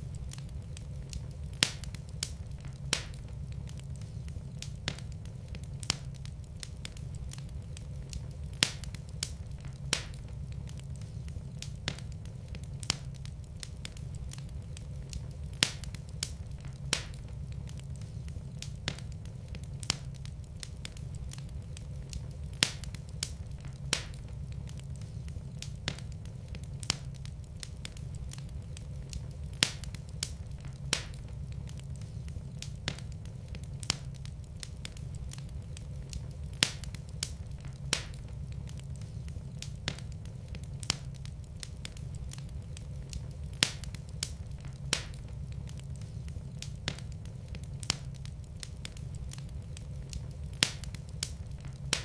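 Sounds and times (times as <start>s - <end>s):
low fire rumble: 0.0s - 52.0s
wood fire crackling: 0.0s - 52.0s.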